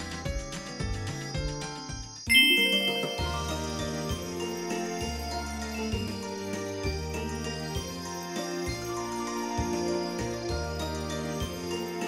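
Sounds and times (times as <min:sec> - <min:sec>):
light tune with jingling bells: 0:00.4 - 0:12.0.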